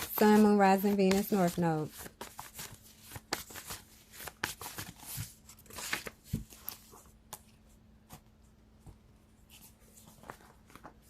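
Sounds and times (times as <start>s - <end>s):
cards shuffled by hand: 0.0s - 11.0s.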